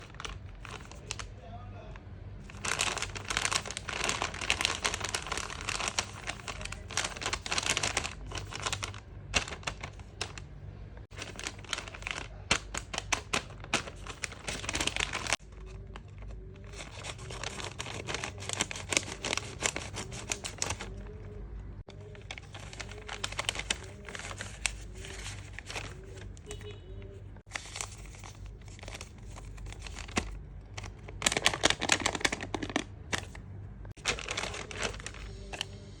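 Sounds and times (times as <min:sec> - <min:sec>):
plastic packaging crinkling: 0:00.0 - 0:01.3, 0:02.4 - 0:26.6, 0:27.4 - 0:36.0.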